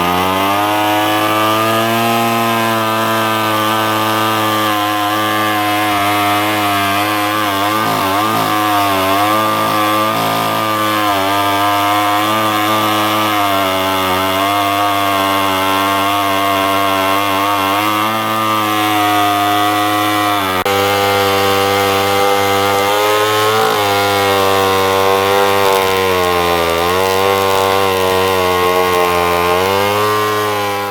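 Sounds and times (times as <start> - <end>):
chainsaw cutting through wood: 0.0 - 30.9.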